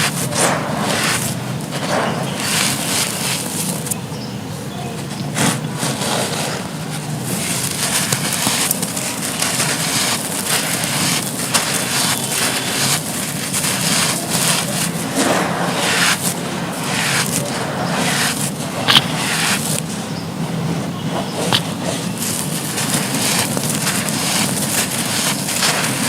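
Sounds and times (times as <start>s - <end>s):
dry material being crumbled: 0.0s - 4.1s, 5.0s - 26.0s.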